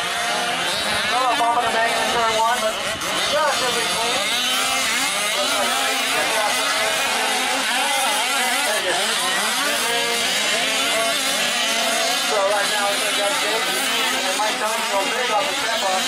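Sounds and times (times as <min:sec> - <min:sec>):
small two-stroke engines revving: 0:00.0 - 0:16.0.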